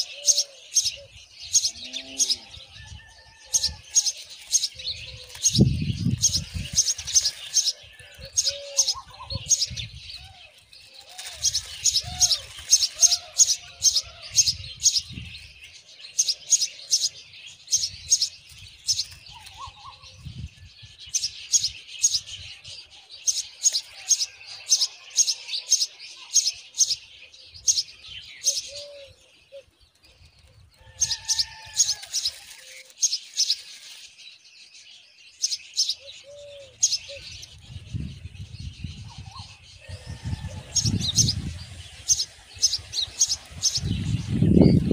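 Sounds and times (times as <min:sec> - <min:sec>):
lower slurred bird calls: 0:00.0 - 0:15.0, 0:15.8 - 0:20.4, 0:22.0 - 0:33.6, 0:35.9 - 0:44.9.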